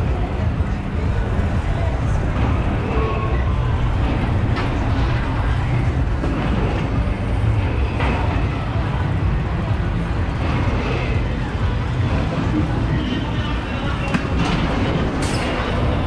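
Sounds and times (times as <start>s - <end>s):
faint voices: 0.0s - 16.0s
low rumble: 0.0s - 16.0s.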